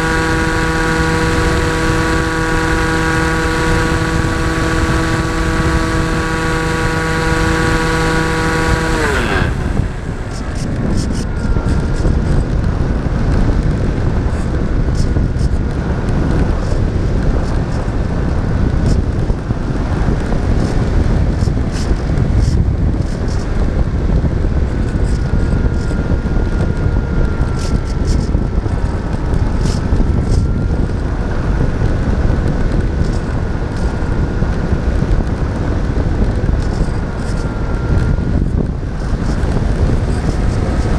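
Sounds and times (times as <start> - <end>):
faint thin whine: 0.0 - 40.9
model airplane motor buzzing: 0.0 - 40.9
wind rushing over microphone: 0.0 - 40.9.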